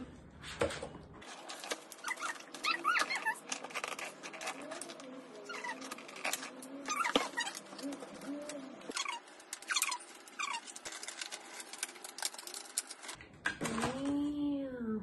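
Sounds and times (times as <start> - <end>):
scissors cutting plastic packaging: 1.2 - 14.1
plastic crackling and clicking: 1.2 - 14.2.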